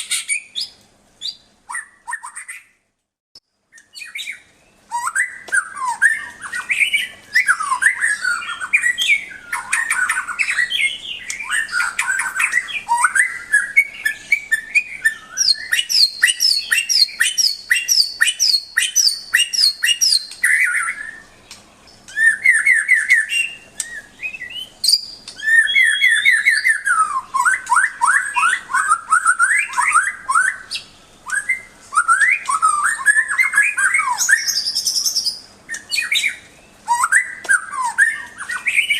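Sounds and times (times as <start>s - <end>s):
bird singing whistled phrases: 0.0s - 2.7s, 3.7s - 38.9s.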